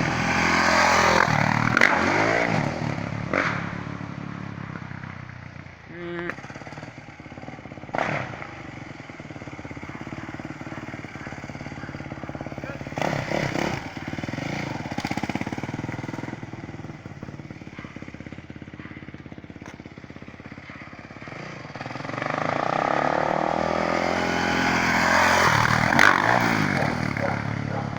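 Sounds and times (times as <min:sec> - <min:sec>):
dirt bike engine revving: 0:00.0 - 0:04.1, 0:05.9 - 0:27.9.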